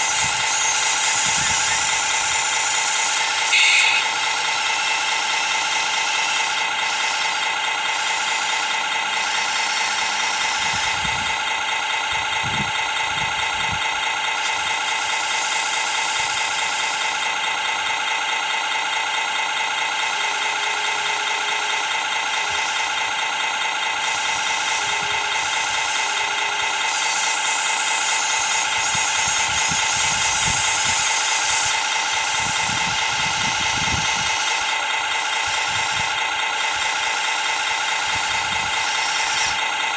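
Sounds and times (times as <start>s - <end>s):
model excavator mechanical drone: 0.0s - 39.9s.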